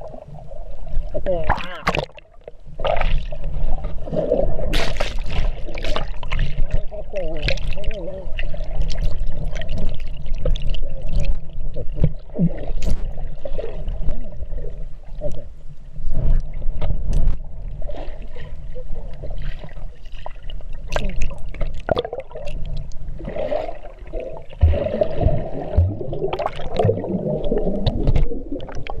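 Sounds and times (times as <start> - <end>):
water churning and splashing: 0.0 - 15.5, 16.1 - 29.0
underwater bubbles: 0.0 - 29.0.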